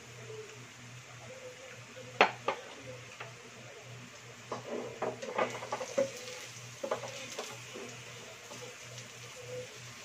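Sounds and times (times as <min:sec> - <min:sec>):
garlic frying in oil: 0:00.0 - 0:10.0.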